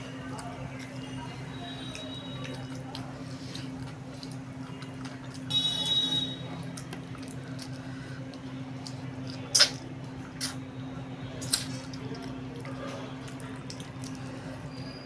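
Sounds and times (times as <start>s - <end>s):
wet chewing mouth sounds: 0.0s - 5.5s, 6.5s - 15.0s.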